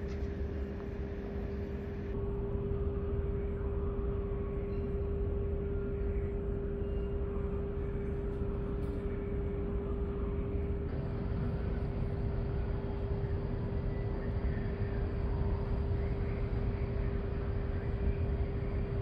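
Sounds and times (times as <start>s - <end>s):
constant engine hum: 0.0s - 19.0s.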